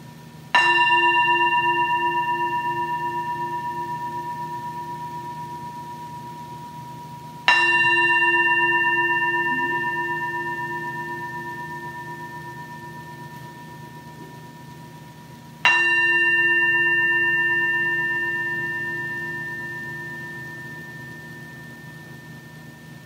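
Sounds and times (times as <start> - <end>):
metal singing bowl ringing: 0.5 - 23.0.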